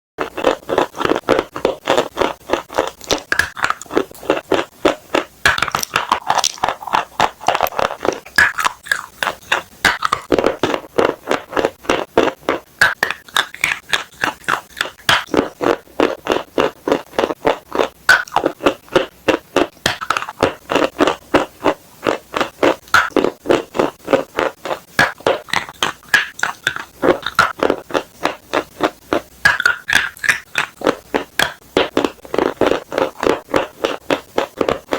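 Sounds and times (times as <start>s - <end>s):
chalk being chewed: 0.2s - 34.9s.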